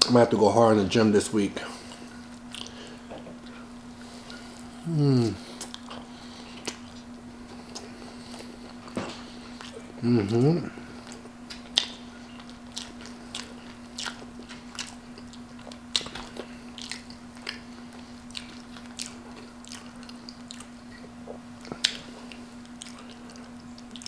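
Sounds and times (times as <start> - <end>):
steady low hum: 0.0 - 24.0
chewing and wet mouth smacking: 1.8 - 24.0.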